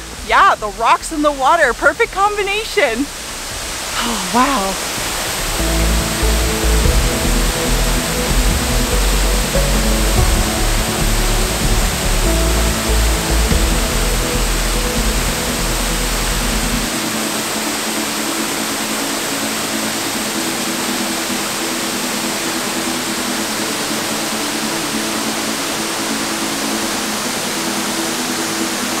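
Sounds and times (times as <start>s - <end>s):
creek running over rocks: 0.0s - 29.0s
soft background music: 0.0s - 29.0s
waterfall rushing: 0.0s - 29.0s.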